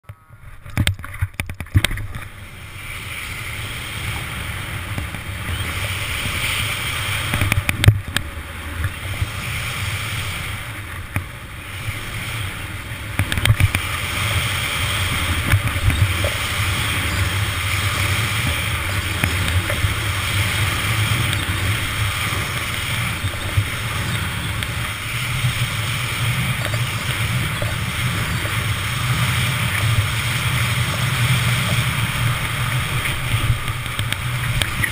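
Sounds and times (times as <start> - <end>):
wind buffeting microphone: 0.3 - 34.9
snowboard scraping packed snow: 2.0 - 34.9.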